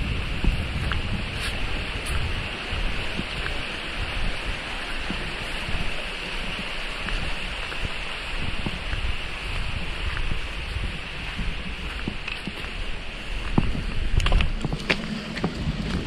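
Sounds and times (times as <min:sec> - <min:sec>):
water rushing in a channel: 0:00.0 - 0:16.0
wind buffeting microphone: 0:00.0 - 0:16.0.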